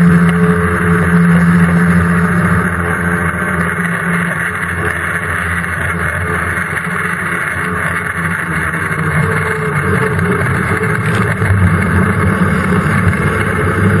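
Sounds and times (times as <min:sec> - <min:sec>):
boat engine running: 0:00.0 - 0:14.0
water rushing along hull: 0:00.0 - 0:14.0.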